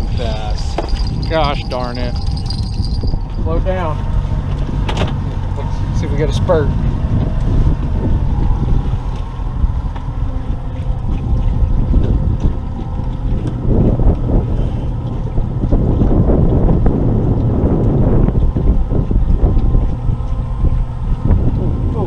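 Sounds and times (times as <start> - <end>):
outboard motor rumble: 0.0 - 22.0
wind buffeting microphone: 0.0 - 22.0.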